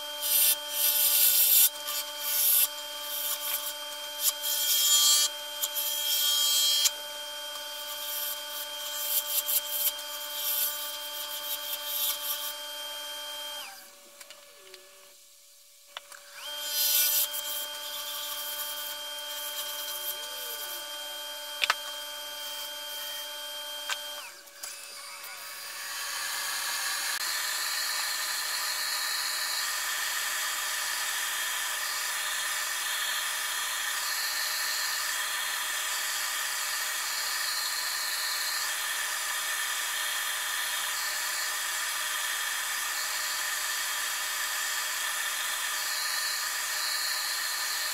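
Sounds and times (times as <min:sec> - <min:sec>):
wood lathe motor whine: 0:00.0 - 0:15.2, 0:16.0 - 0:47.9.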